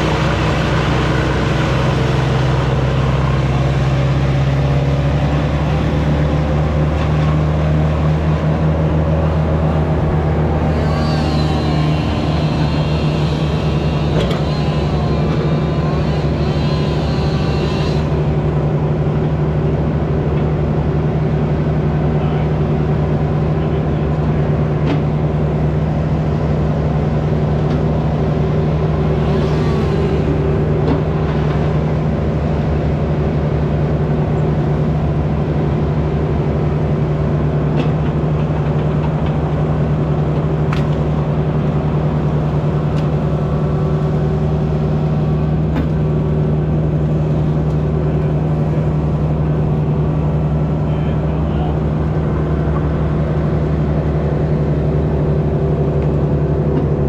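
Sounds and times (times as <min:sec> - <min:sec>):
heavy machinery engine running: 0:00.0 - 0:57.0.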